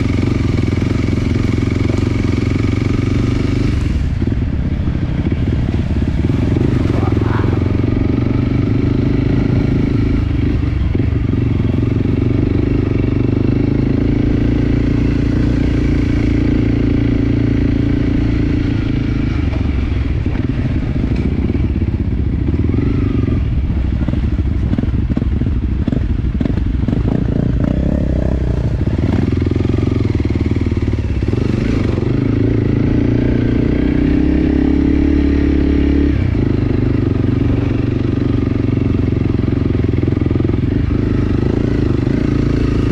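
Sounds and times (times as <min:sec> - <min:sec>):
dirt bike engine: 0:00.0 - 0:42.9.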